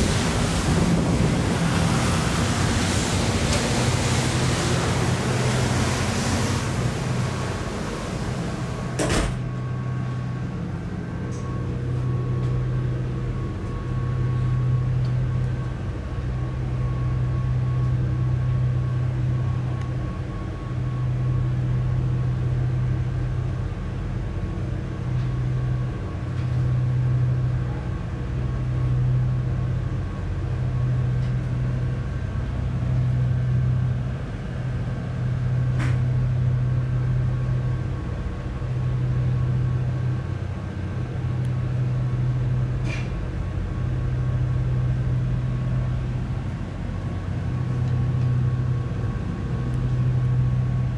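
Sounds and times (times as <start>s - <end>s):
ferry engine drone: 0.0s - 50.9s.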